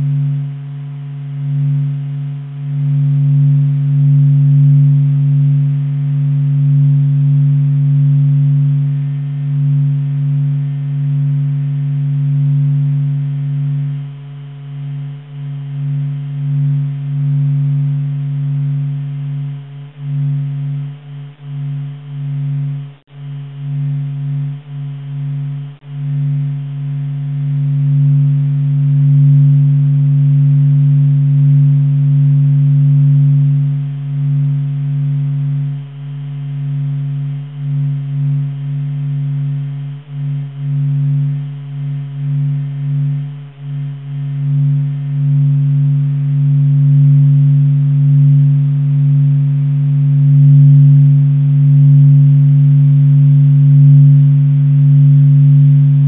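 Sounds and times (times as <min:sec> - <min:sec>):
faint higher tones: 0:00.0 - 0:56.0
low pulsing hum of deep tones: 0:00.0 - 0:56.0.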